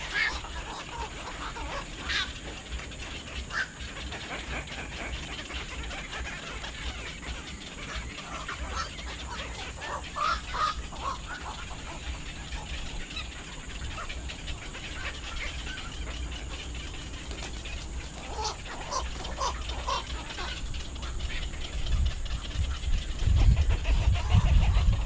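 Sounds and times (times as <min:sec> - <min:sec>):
birds calling: 0:00.0 - 0:25.0
steady low rumble: 0:00.0 - 0:25.0.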